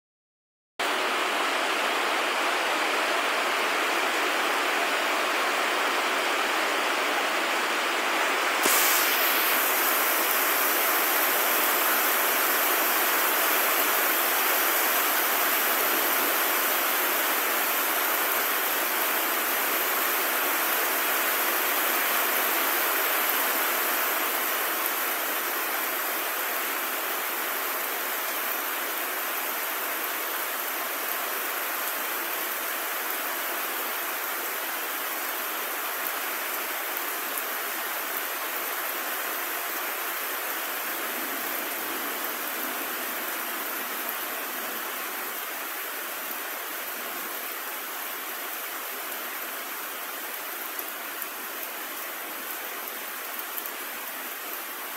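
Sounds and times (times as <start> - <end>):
heavy rain pouring: 0.8 - 54.9.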